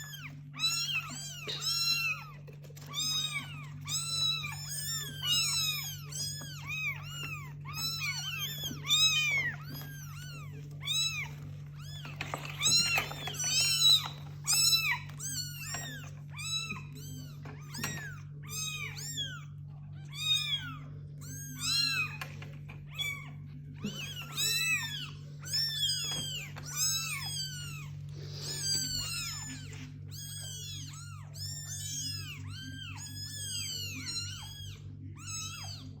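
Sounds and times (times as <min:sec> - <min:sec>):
kittens meowing: 0:00.0 - 0:36.0.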